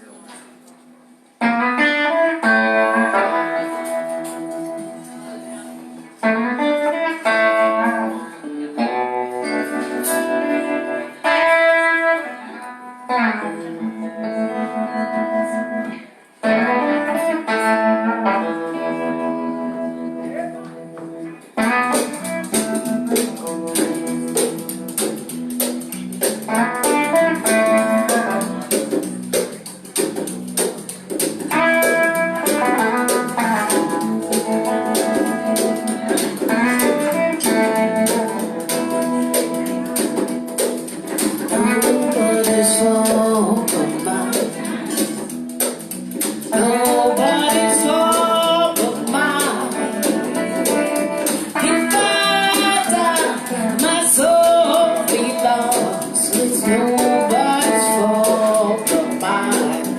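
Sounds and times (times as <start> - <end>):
blues band playing: 1.3 - 59.9.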